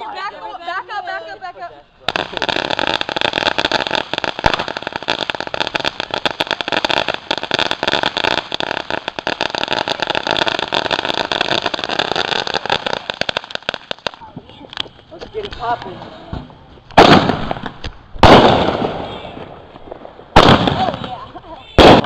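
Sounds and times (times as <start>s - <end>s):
firework hissing and crackling: 2.0s - 16.4s, 17.0s - 22.0s.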